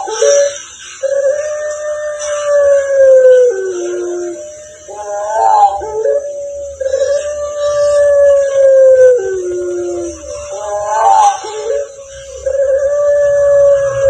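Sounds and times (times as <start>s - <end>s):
dog howling: 0.0s - 14.0s.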